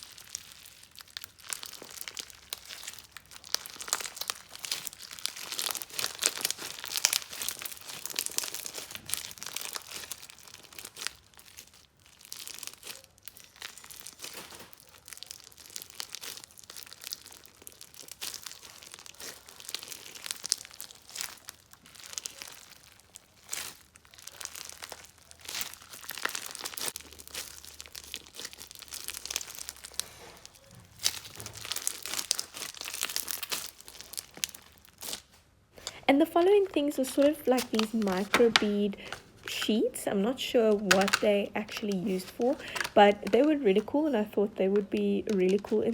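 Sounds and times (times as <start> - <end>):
slime crackling when squeezed: 0.0 - 45.9.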